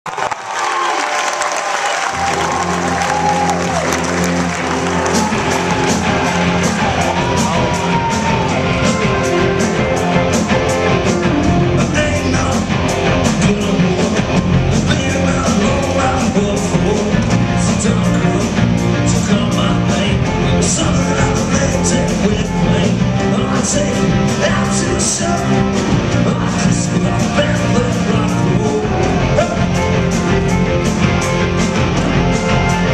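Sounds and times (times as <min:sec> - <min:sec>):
rock band playing live: 0:02.0 - 0:32.9.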